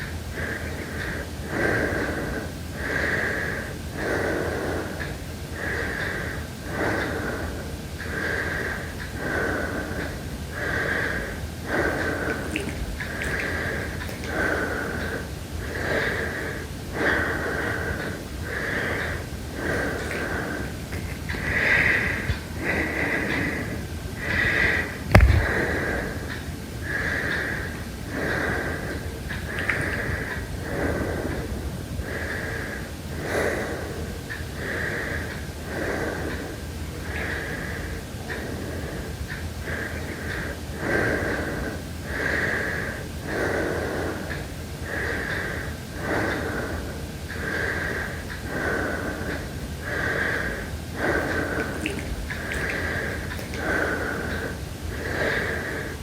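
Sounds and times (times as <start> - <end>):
person breathing heavily: 5.6 - 56.0.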